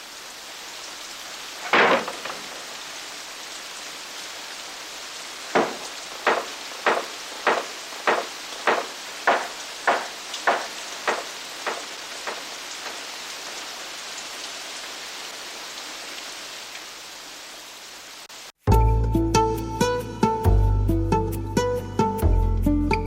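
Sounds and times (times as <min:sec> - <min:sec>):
steady hiss: 0:00.0 - 0:18.6.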